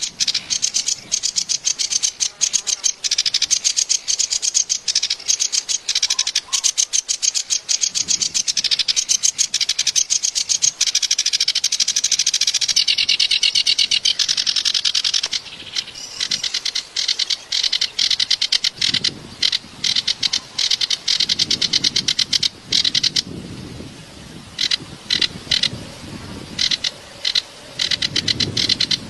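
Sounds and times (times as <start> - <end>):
songbird chattering song: 0.0 - 29.0.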